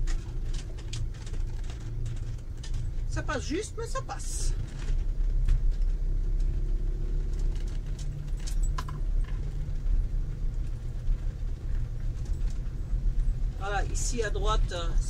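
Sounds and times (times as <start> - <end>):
engine and road rumble: 0.0 - 15.0
light clicks and rattles: 0.0 - 15.0.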